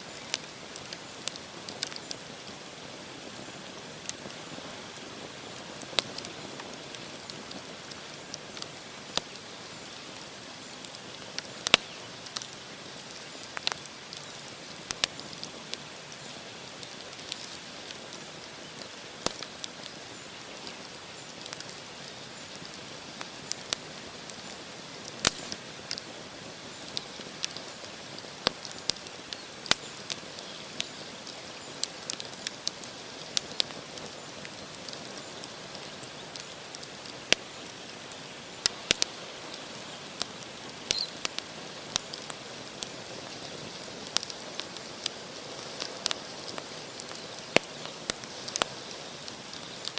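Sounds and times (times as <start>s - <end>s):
campfire crackling and popping: 0.0s - 49.9s
hiss of flame: 0.0s - 49.9s.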